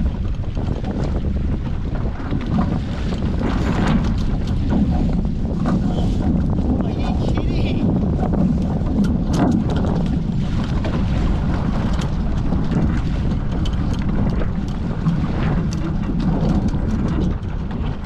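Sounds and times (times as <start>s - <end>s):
water rushing past hulls: 0.0s - 18.0s
wind buffeting microphone: 0.0s - 18.0s.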